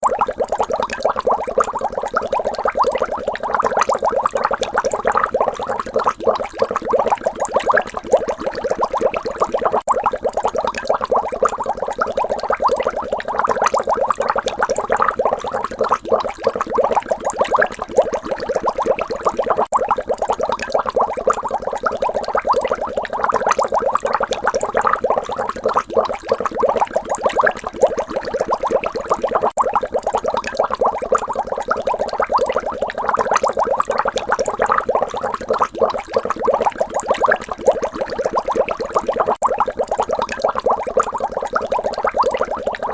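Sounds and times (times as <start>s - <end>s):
water bubbling: 0.0s - 42.9s.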